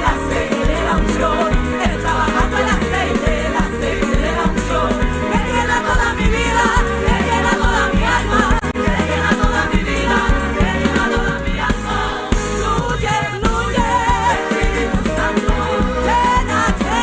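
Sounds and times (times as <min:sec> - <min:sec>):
band with bass and drums: 0:00.0 - 0:17.0
congregation singing along: 0:00.0 - 0:17.0
lead singer singing: 0:00.0 - 0:17.0.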